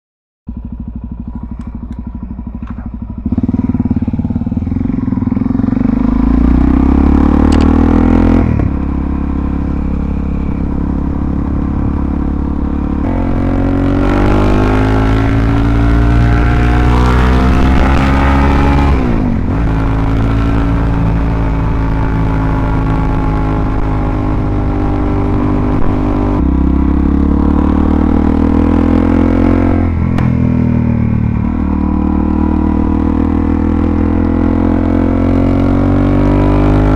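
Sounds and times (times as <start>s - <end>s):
motorcycle engine accelerating: 0.5s - 36.9s.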